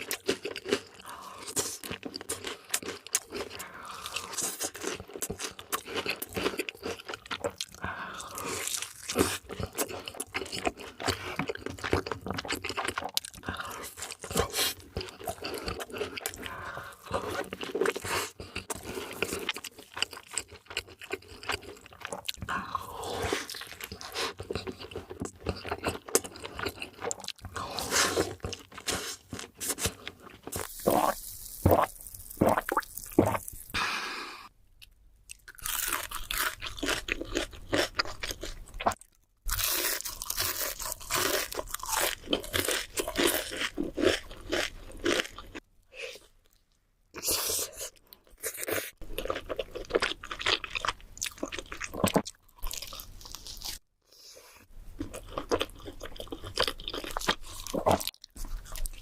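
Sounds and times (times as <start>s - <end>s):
food being chewed crunchily: 0.0s - 33.8s, 34.8s - 45.6s, 46.2s - 53.8s, 54.9s - 59.0s.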